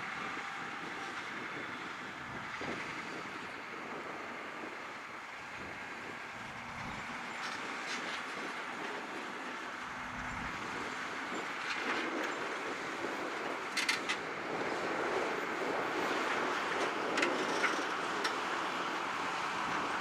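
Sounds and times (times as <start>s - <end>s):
tractor pulling plough: 0.0s - 20.0s.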